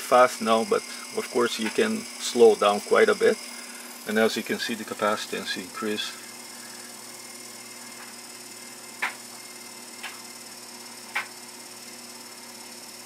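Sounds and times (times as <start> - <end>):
gear motor humming: 0.0 - 13.0.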